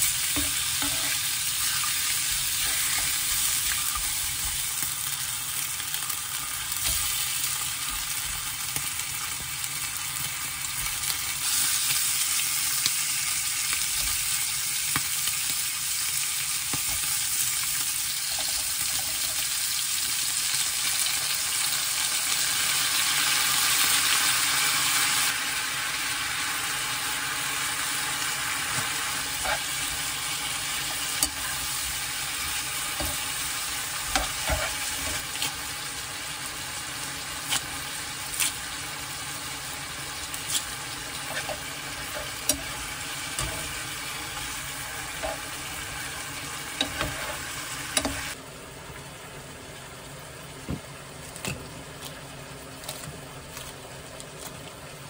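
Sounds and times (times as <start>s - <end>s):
meat sizzling in a frying pan: 0.0s - 55.0s.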